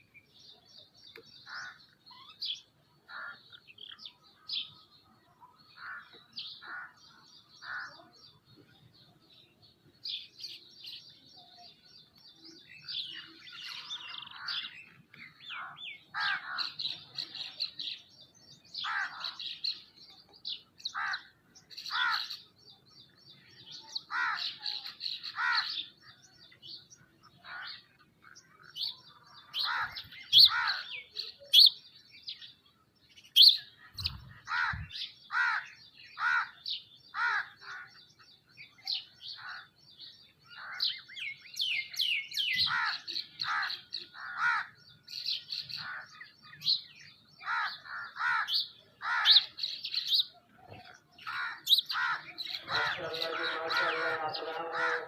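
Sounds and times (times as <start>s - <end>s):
birds chirping and calling: 0.0s - 55.0s.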